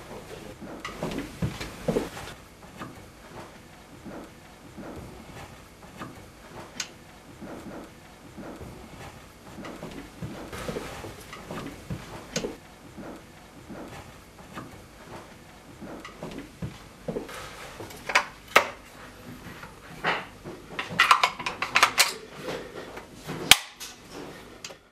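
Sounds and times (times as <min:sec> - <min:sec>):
wood and metal clicks and knocks: 0:00.1 - 0:24.8.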